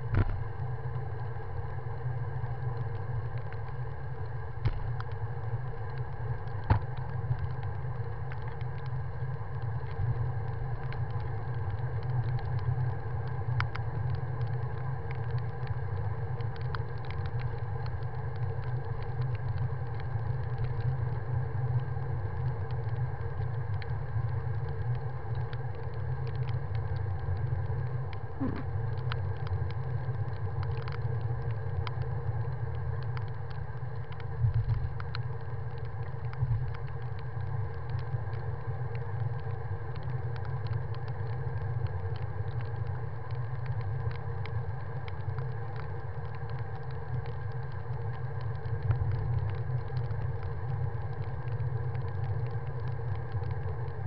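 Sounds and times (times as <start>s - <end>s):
small clicks and rattles: 2.5s - 54.0s.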